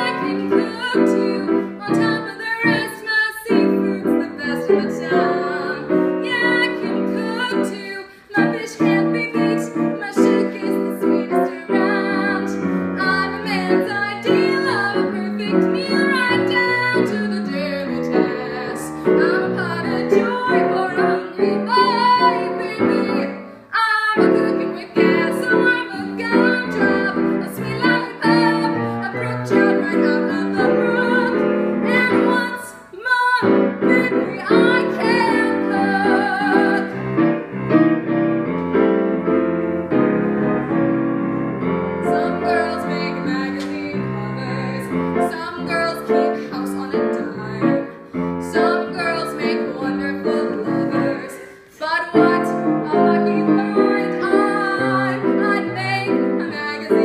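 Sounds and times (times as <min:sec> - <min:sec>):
woman singing: 0:00.0 - 0:37.1, 0:42.0 - 0:57.0
grand piano: 0:00.0 - 0:57.0.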